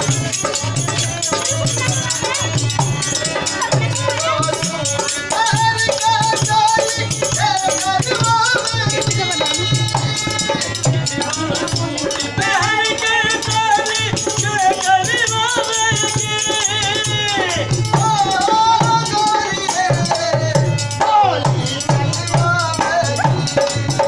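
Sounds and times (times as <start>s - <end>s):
harmonium: 0.0s - 24.0s
rattling percussion: 0.0s - 24.0s.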